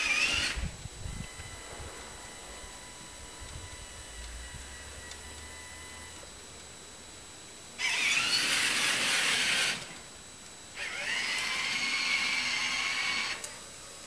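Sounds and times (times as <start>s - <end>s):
electric motor whining: 0.0s - 6.5s, 7.8s - 10.1s, 10.7s - 14.0s.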